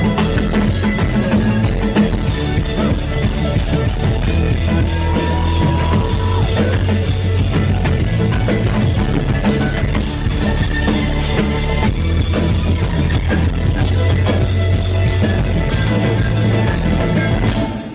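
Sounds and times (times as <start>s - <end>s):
drums pounding: 0.0s - 17.9s
live rock band playing: 0.0s - 17.9s.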